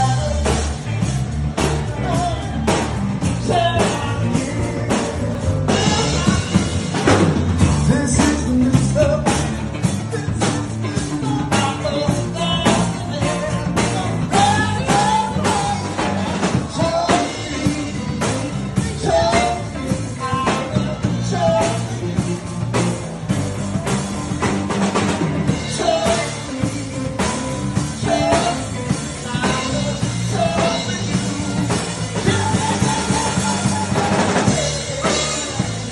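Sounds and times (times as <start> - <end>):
person singing: 0.0 - 23.0, 25.4 - 35.9
drum kit beat: 0.0 - 35.9.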